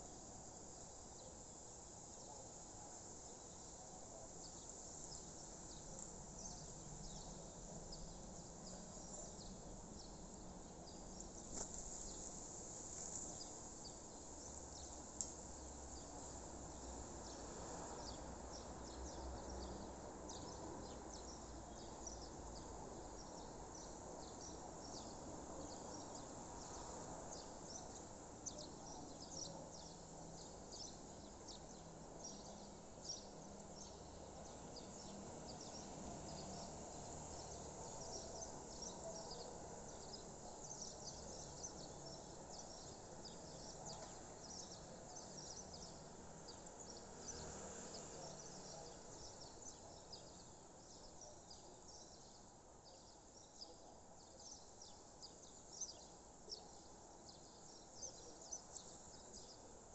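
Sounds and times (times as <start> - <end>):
soft background hiss: 0.0 - 59.9.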